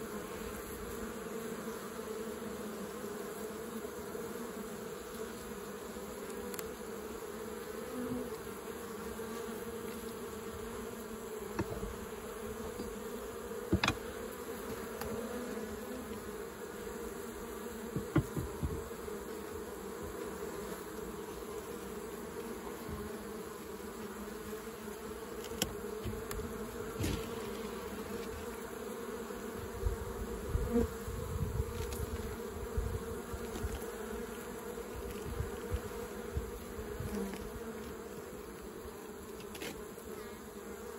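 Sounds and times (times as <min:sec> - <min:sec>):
honeybees buzzing: 0:00.0 - 0:40.9.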